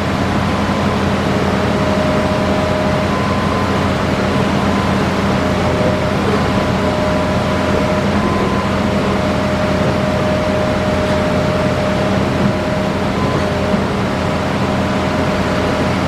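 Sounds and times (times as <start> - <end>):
excavator diesel engine running: 0.0 - 16.0
thin steady whine: 0.0 - 16.0.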